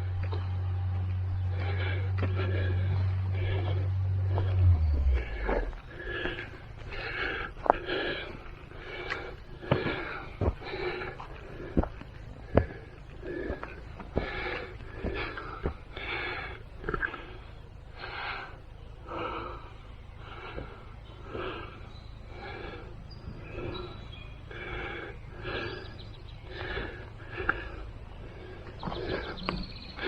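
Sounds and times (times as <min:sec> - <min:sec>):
person breathing hard: 0:00.0 - 0:30.0.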